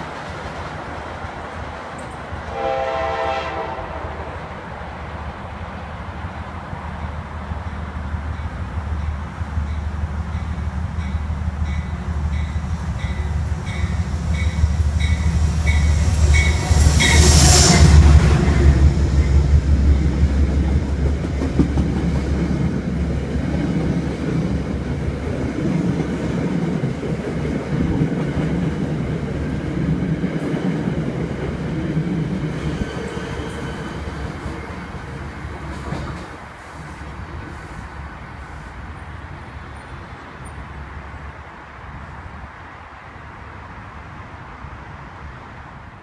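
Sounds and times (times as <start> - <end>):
rush of passing train: 0.0 - 46.0
train rumbling past: 0.0 - 46.0.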